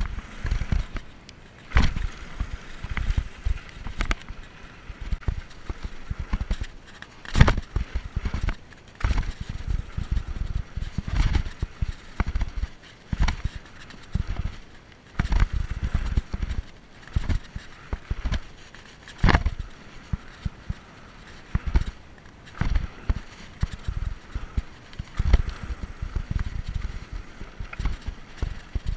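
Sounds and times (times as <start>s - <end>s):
mountain bike clattering over rocks: 0.0s - 28.9s.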